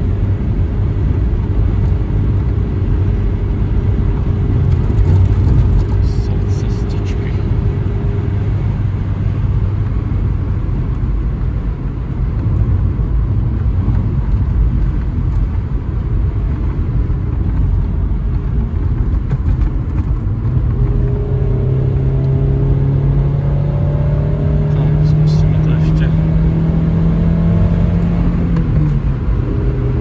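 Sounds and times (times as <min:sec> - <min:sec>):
car engine humming: 0:00.0 - 0:30.0
road and tyre rumble: 0:00.0 - 0:30.0.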